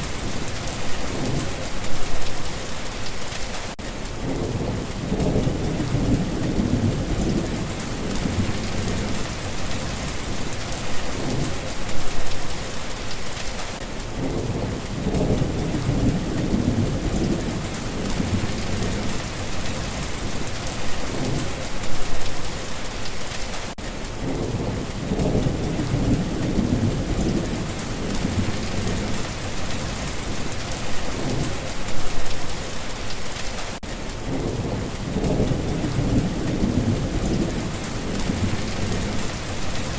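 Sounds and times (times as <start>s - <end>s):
thunder rumbling: 0.0s - 3.3s, 4.1s - 12.8s, 14.1s - 22.6s, 24.2s - 32.8s, 34.1s - 39.9s
heavy rain hissing: 0.0s - 39.9s.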